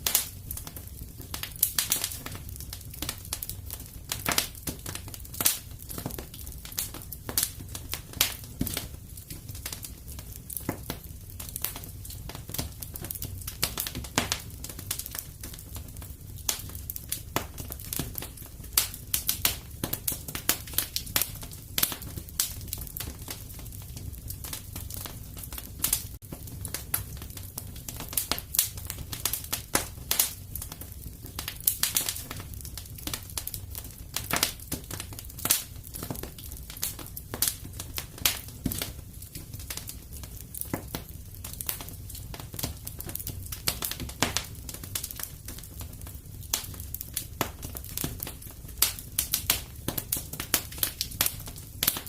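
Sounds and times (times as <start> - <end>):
fireplace fire crackling: 0.0 - 52.0.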